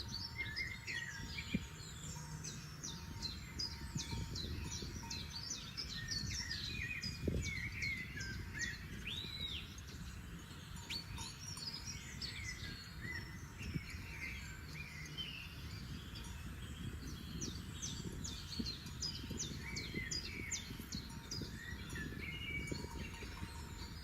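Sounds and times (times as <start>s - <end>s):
songbirds singing and chirping: 0.0s - 24.0s.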